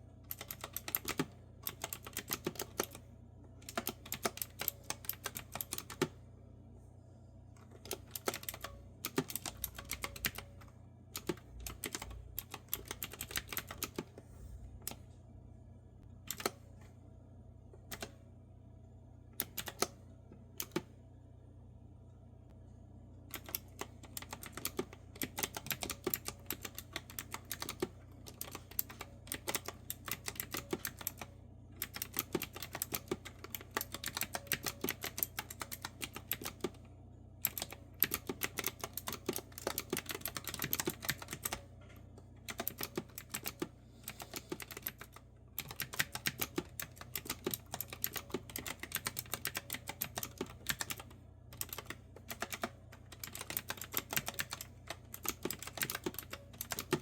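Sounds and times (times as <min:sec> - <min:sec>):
clicky keyboard typing: 0:00.3 - 0:03.0, 0:03.6 - 0:06.2, 0:07.6 - 0:14.2, 0:16.3 - 0:16.6, 0:19.4 - 0:20.0, 0:20.6 - 0:20.9, 0:23.3 - 0:36.8, 0:37.4 - 0:57.0.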